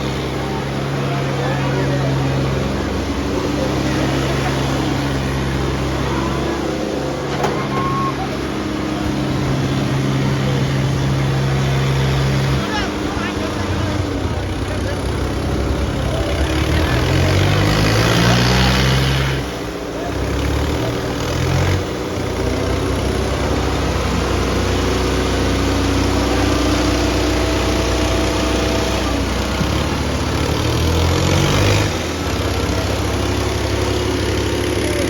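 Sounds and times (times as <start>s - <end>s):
tractor diesel engines running hard: 0.0s - 35.0s.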